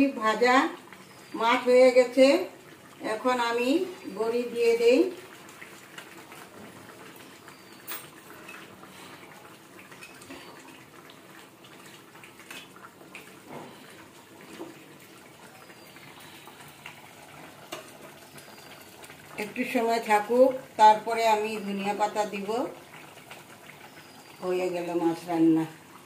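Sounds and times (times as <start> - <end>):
curry bubbling in a pan: 0.0 - 26.0.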